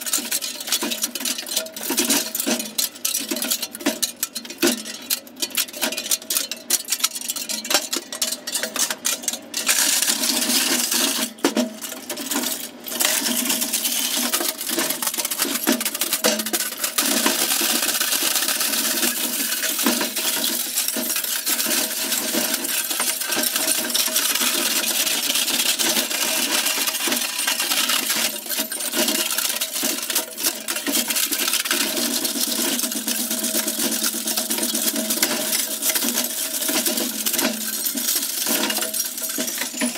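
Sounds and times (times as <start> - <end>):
shredder crunching metal and plastic: 0.0 - 39.9.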